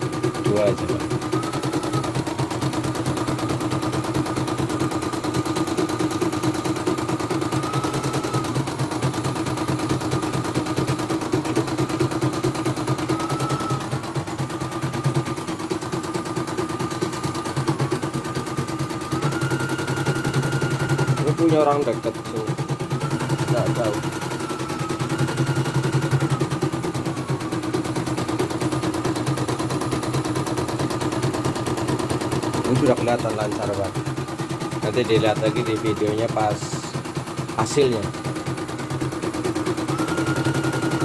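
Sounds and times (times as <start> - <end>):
embroidery machine stitching: 0.0 - 41.0.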